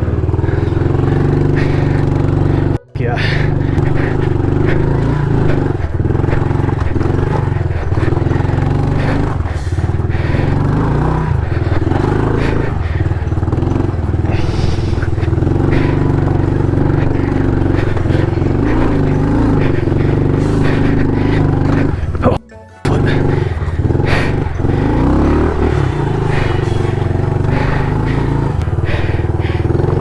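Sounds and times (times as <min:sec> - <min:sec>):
motorbike engine revving: 0:00.0 - 0:30.0.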